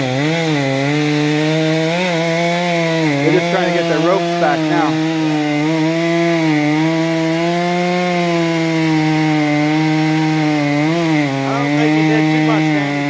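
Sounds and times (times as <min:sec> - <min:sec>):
chainsaw running at high revs: 0:00.0 - 0:13.0.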